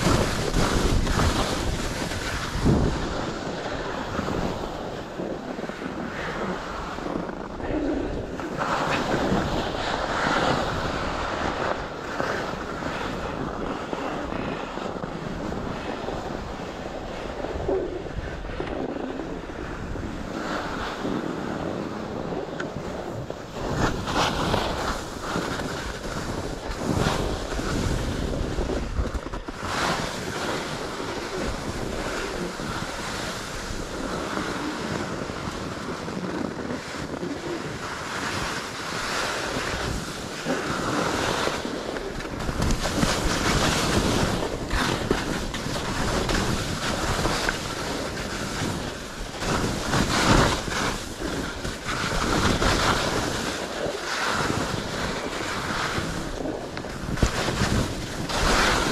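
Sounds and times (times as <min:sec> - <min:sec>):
skis scraping through snow: 0:00.0 - 0:58.9
wind rushing over microphone: 0:00.0 - 0:58.9.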